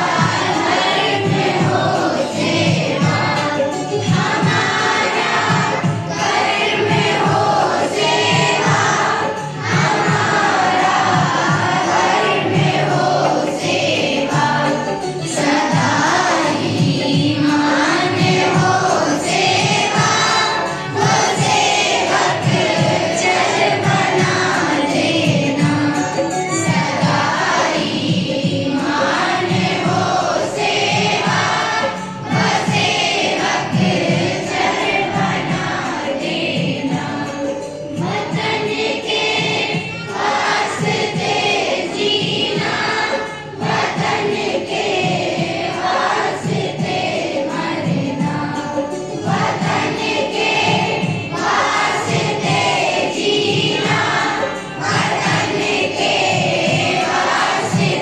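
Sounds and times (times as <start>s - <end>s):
students singing prayer: 0.0s - 58.0s.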